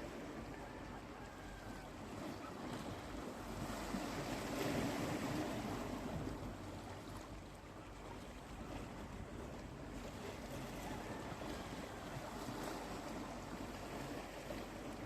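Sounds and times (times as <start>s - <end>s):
sea waves washing onto shore: 0.0s - 15.0s.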